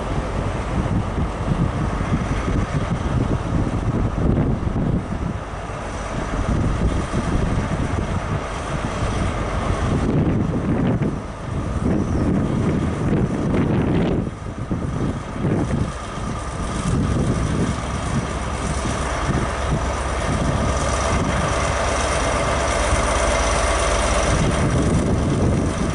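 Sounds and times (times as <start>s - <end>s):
diesel train engine passing: 0.0s - 25.9s
wind rumble on microphone: 0.0s - 25.9s.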